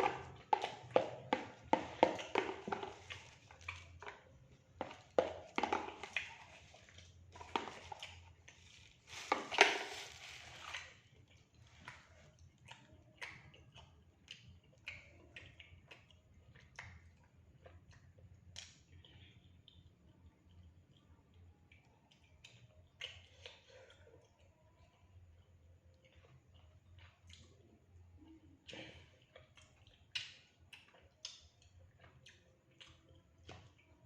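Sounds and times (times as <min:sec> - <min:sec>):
chewing and mouth smacks: 0:00.0 - 0:09.0, 0:10.6 - 0:34.0.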